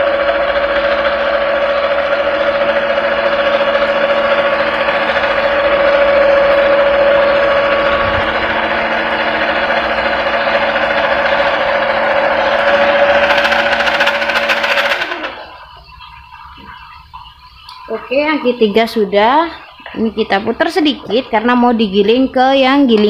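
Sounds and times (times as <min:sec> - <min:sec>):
noodle machine motor humming: 0:00.0 - 0:22.0.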